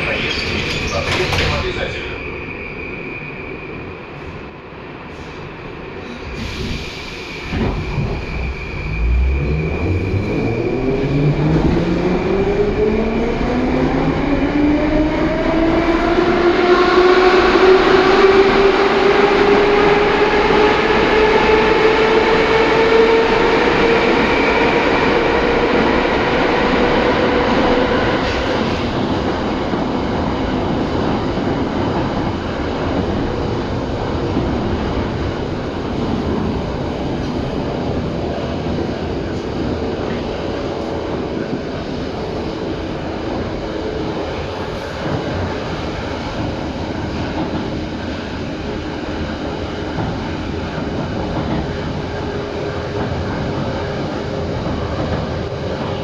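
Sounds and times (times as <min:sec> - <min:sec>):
wheels rumbling on rail: 0:00.0 - 0:03.3, 0:04.0 - 0:56.0.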